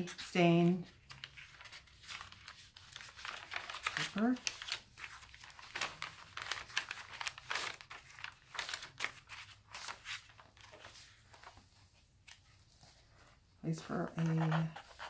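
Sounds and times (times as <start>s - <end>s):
paper pages rustling: 0.0s - 15.0s.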